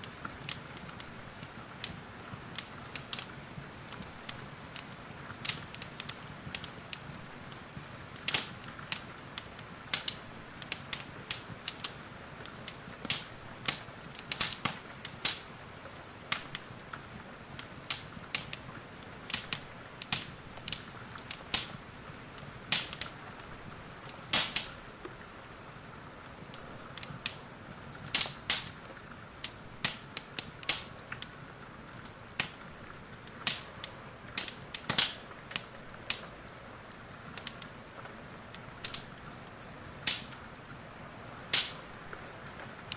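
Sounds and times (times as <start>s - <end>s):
rain hissing: 0.0s - 42.9s
wood fire crackling: 0.0s - 42.9s.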